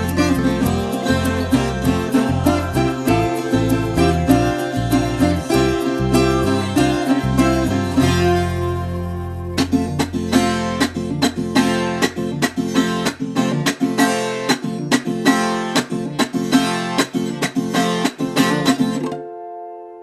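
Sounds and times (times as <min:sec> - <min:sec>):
folk guitar strumming: 0:00.0 - 0:20.0.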